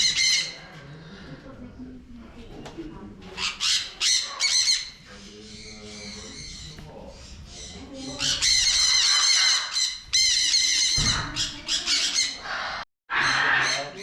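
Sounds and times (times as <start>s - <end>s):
birds squawking: 0.0s - 0.6s, 3.3s - 14.0s.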